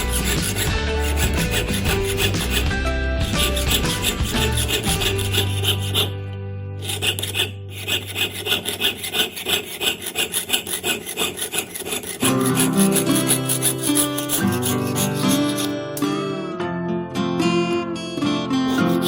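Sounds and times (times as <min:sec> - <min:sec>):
hand tool stroking metal: 0:00.0 - 0:06.2, 0:06.8 - 0:15.8, 0:18.7 - 0:19.0.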